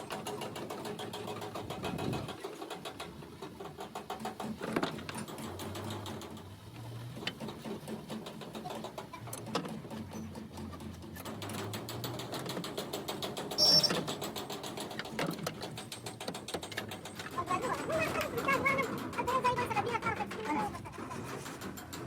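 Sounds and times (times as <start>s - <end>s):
machine mechanical rattle: 0.0s - 22.0s.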